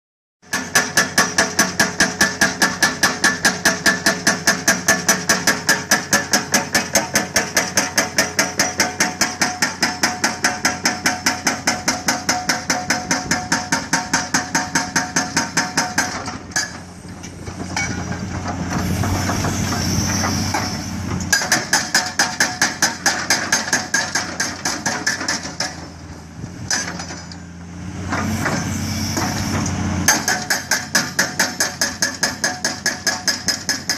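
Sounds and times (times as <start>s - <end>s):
hydraulic breaker hammering rock: 0.4s - 27.4s, 28.1s - 33.9s
excavator engine running: 0.6s - 33.9s.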